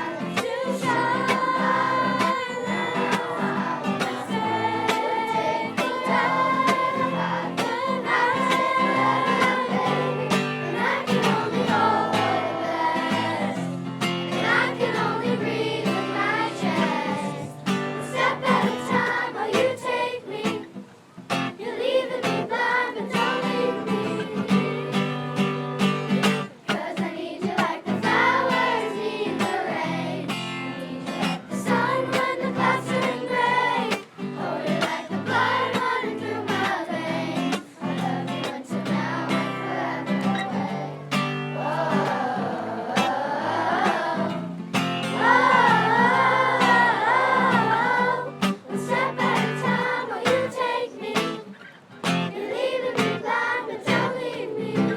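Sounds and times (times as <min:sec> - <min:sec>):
children's choir singing: 0:00.0 - 0:54.9.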